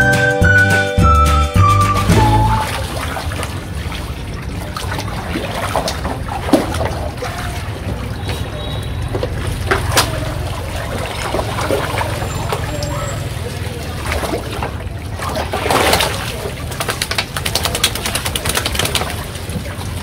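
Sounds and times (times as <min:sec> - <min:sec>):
pool water sloshing and splashing: 0:02.0 - 0:20.0.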